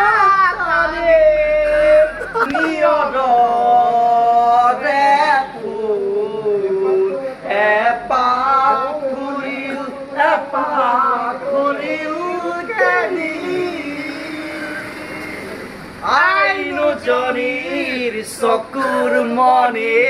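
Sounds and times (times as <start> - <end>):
man singing slow melody: 0.0 - 20.0.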